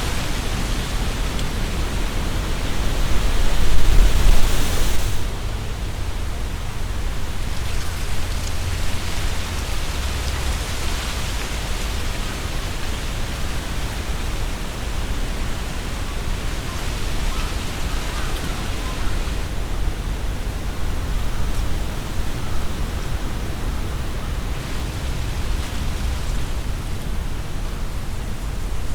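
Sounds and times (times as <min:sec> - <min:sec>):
leaves rustling in strong wind: 0:00.0 - 0:28.9
wind buffeting microphone: 0:00.0 - 0:28.9.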